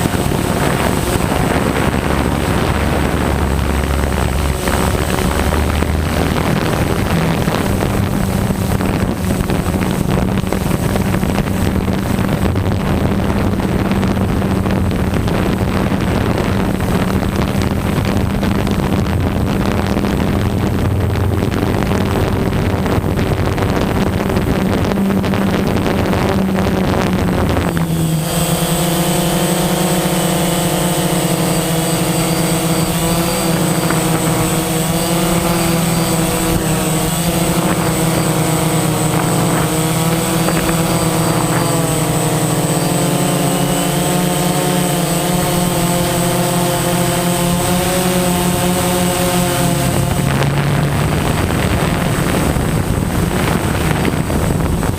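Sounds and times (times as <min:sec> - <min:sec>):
drone propellers buzzing: 0:00.0 - 0:54.9.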